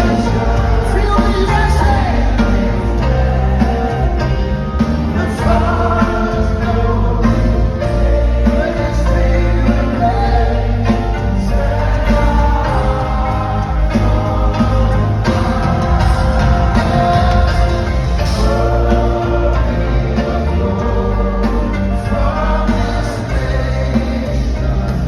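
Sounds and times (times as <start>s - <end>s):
band with heavy bass: 0.0s - 25.0s
steady drum beat: 0.0s - 25.0s
voices singing gospel: 0.0s - 25.0s.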